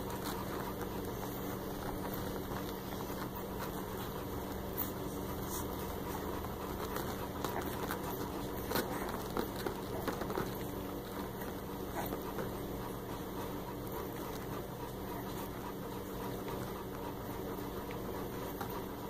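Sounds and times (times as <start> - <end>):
puppies suckling: 0.0 - 19.0
steady low hum: 0.0 - 19.0.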